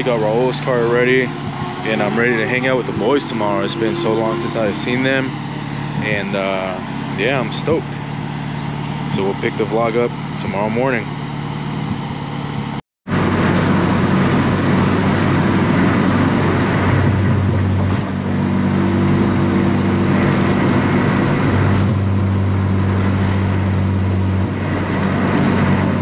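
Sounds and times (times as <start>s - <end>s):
car engine drone: 0.0s - 26.0s
road noise: 0.0s - 26.0s.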